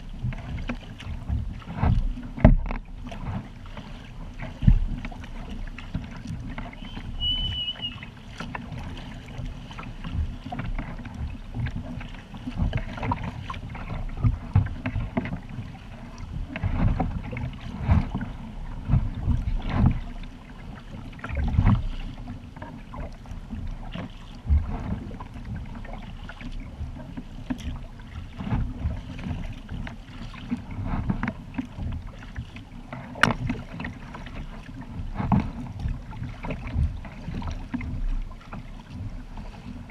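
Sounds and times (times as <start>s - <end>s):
paddle splashes: 0.0s - 39.9s
water lapping against hull: 0.0s - 39.9s
wind rumble on microphone: 0.0s - 39.9s.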